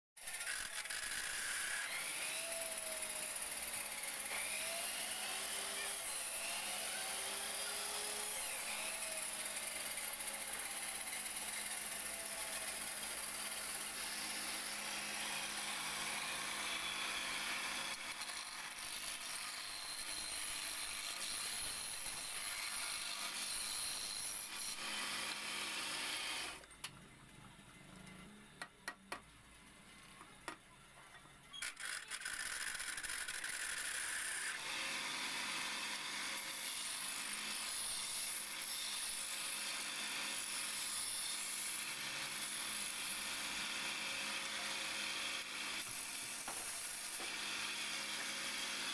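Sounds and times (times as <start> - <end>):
turning tool cutting wood: 0.2 - 26.6, 31.6 - 48.9.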